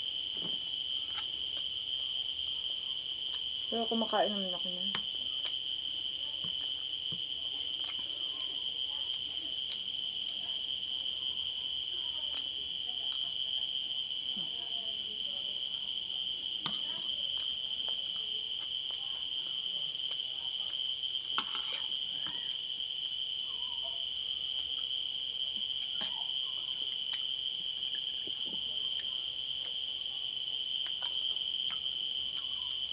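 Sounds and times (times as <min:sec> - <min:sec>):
crickets chirring: 0:00.0 - 0:32.9.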